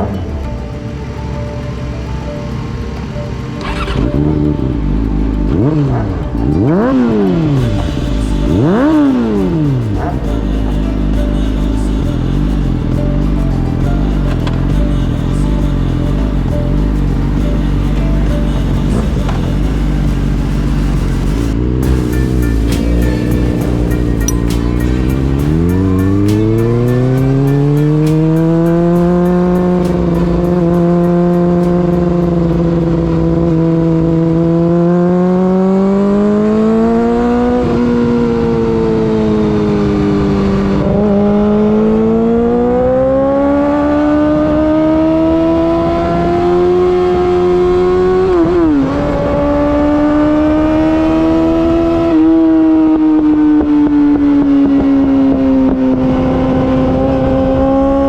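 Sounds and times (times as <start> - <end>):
motorcycle engine revving: 2.5 - 58.0.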